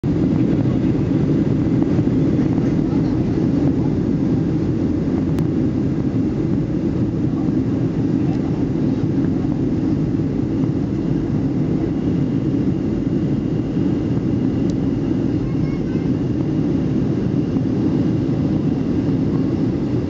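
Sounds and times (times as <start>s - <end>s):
jet engine cabin drone: 0.0s - 20.0s.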